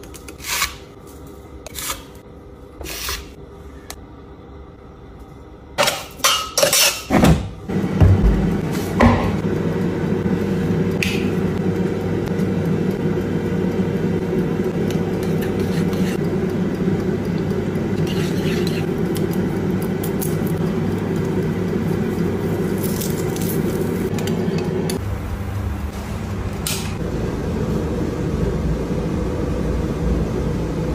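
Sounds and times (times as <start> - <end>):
air fryer fan whirring: 0.0 - 30.9.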